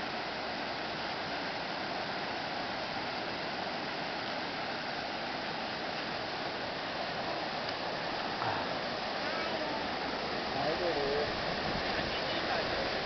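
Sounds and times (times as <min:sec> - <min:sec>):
stream rushing over rapids: 0:00.0 - 0:13.0.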